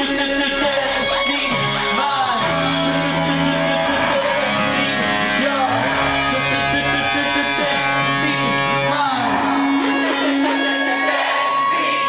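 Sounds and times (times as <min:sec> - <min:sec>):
loud live band music: 0:00.0 - 0:12.0.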